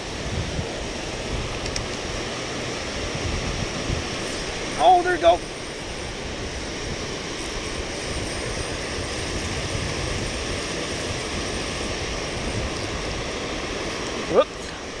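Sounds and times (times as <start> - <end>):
rain falling on river water: 0.0 - 15.0.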